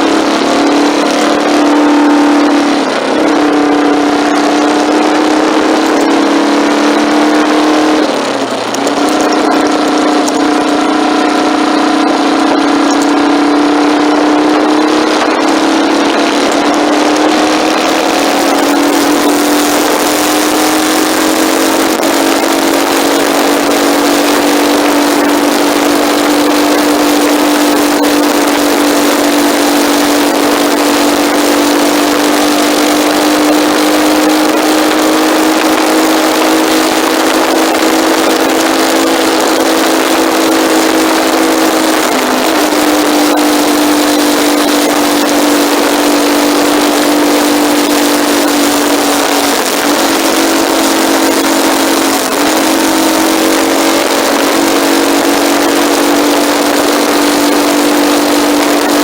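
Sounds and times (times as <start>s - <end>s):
motorcycle engine drone: 0.0s - 59.0s
wind rush: 0.0s - 59.0s.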